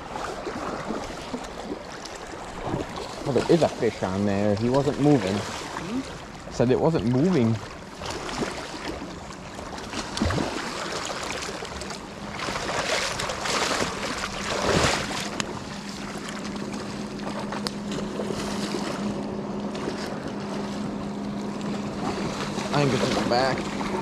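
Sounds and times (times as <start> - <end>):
rushing river water: 0.0 - 24.0
steady low hum: 0.0 - 24.0.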